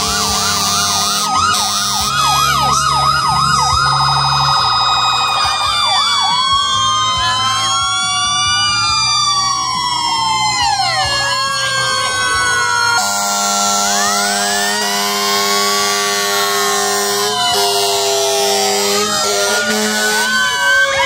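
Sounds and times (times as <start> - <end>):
fire engine sirens wailing: 0.0 - 21.0.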